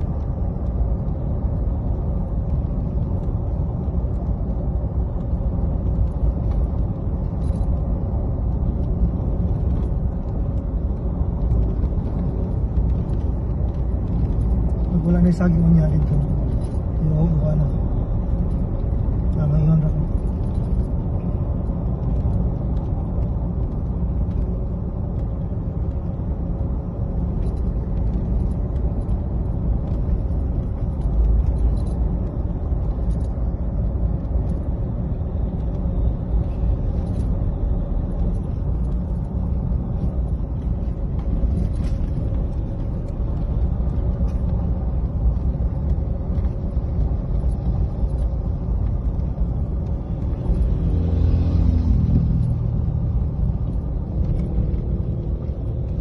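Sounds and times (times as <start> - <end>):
pitched engine drone: 0.0 - 56.0
road noise inside moving vehicle: 0.0 - 56.0.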